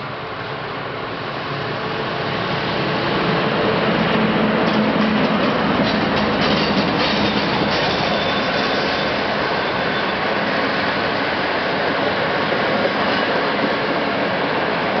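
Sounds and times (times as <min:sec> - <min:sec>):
train wheels rumbling on rails: 0:00.8 - 0:15.0.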